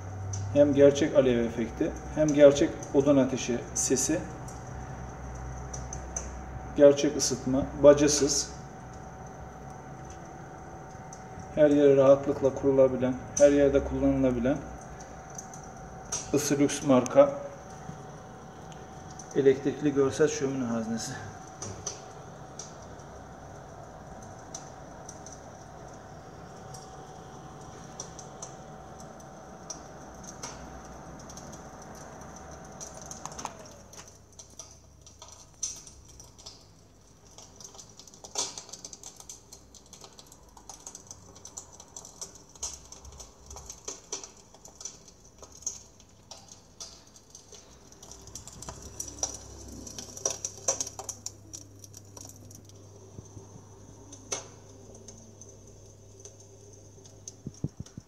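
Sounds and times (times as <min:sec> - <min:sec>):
fire crackling sound effect: 0:00.0 - 0:58.0
heater blower whining hum: 0:00.0 - 0:58.0.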